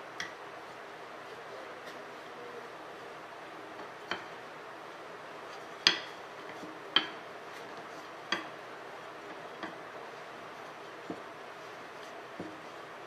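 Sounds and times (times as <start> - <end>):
faint steady hiss: 0.0 - 13.0
rolling pin rolling dough: 0.0 - 13.0.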